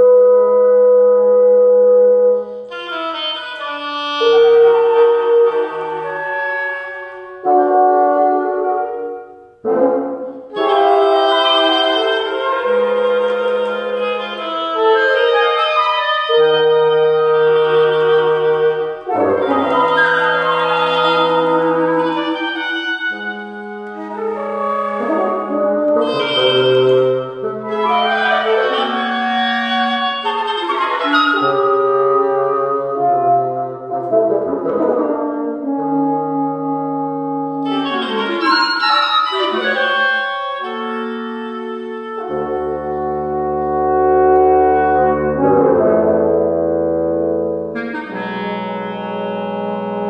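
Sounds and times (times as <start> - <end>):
bassoon: 0.0 - 50.0
clarinet: 0.0 - 50.0
flute: 0.0 - 50.0
french horn: 0.0 - 50.0
oboe: 0.0 - 50.0.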